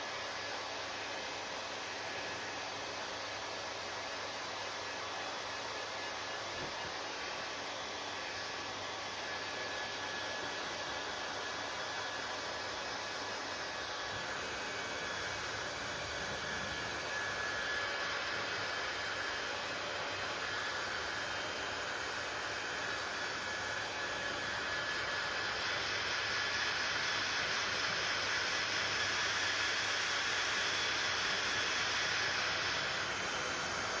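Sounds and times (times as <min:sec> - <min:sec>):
hair dryer running: 0:00.0 - 0:34.0.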